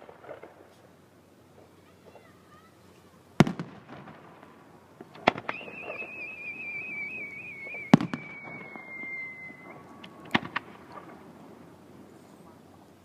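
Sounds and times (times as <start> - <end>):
whistling firework: 0.0 - 0.9, 1.6 - 13.0
fireworks bangs: 0.0 - 13.0.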